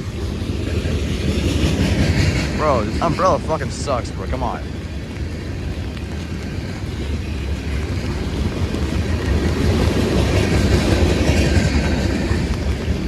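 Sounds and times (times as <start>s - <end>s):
freight train rumbling: 0.0s - 13.0s
wheels clattering on rails: 0.0s - 13.0s.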